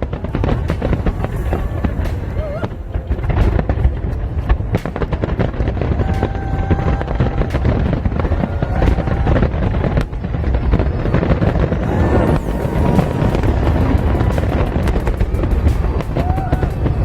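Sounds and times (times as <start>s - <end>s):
show music: 0.0s - 10.6s, 11.2s - 17.0s
fireworks booming: 0.0s - 17.0s
fireworks crackling and popping: 0.0s - 17.0s.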